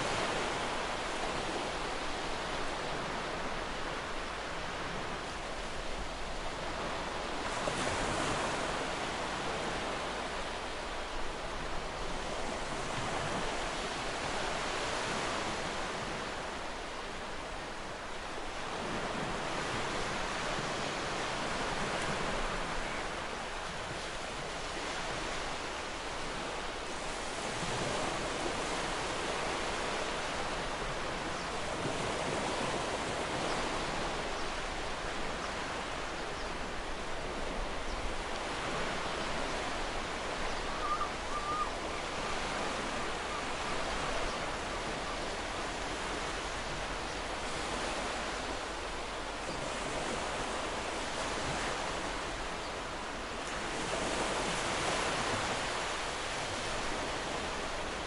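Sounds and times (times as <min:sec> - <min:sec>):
ocean waves washing ashore: 0:00.0 - 0:58.0.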